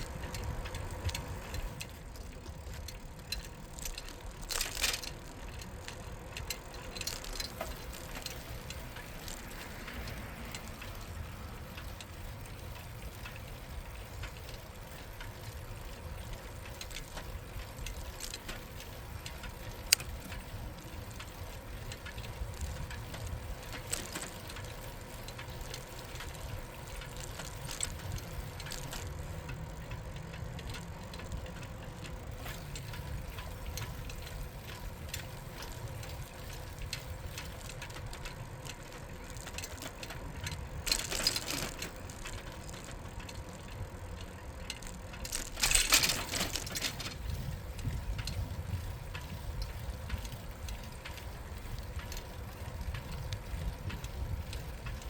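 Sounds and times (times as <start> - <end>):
bicycle mechanism ticking: 0.0 - 55.0
bicycle tyres rumbling on pavement: 0.0 - 55.0.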